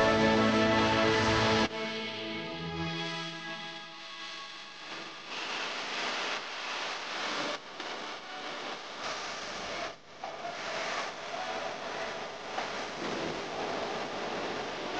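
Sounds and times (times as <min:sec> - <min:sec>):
steady rushing noise: 0:00.0 - 0:02.2, 0:03.4 - 0:14.9.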